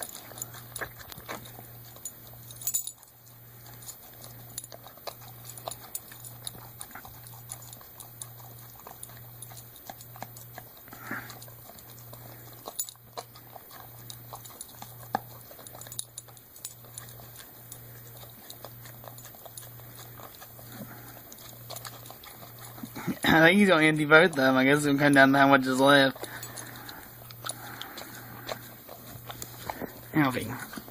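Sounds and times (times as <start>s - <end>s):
dog lapping and chewing: 0.0s - 30.9s
low pulsing hum: 0.0s - 30.9s.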